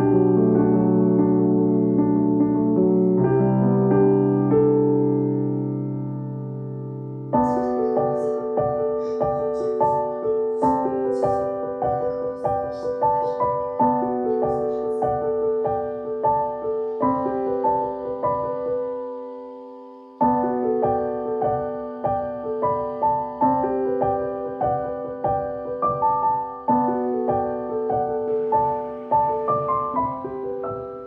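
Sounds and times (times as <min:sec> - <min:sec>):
piano chords: 0:00.0 - 0:31.0
repeated piano notes: 0:00.0 - 0:31.0.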